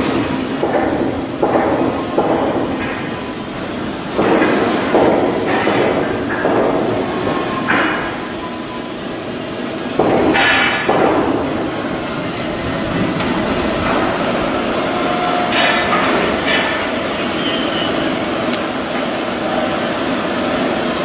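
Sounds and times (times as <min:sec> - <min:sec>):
industrial din: 0:00.0 - 0:21.0.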